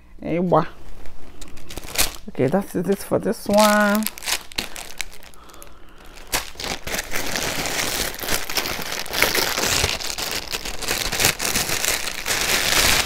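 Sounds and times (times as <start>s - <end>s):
plastic bags rustling and crinkling: 0.5s - 13.0s.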